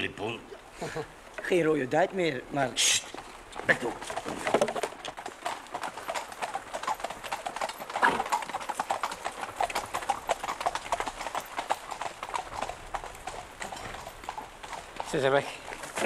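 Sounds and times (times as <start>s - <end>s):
horse hooves clattering on stone: 1.2s - 16.0s.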